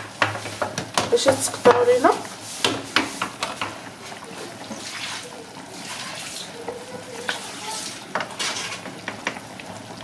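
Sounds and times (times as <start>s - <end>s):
broth bubbling in pot: 0.0s - 10.0s.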